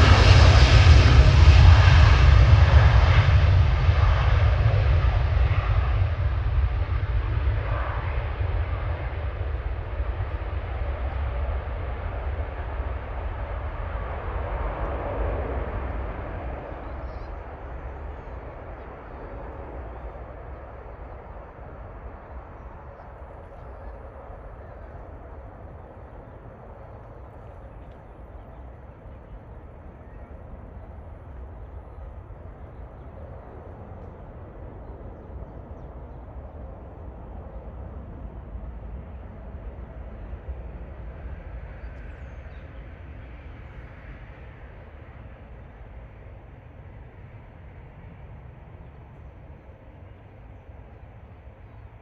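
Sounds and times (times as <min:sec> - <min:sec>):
jet airliner engine rumble: 0:00.0 - 0:52.0.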